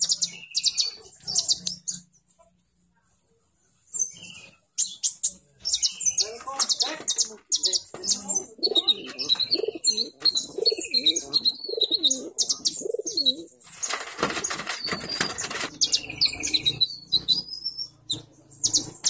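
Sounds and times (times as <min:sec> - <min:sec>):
bird chirping and twittering: 0:00.0 - 0:02.9, 0:03.6 - 0:19.0.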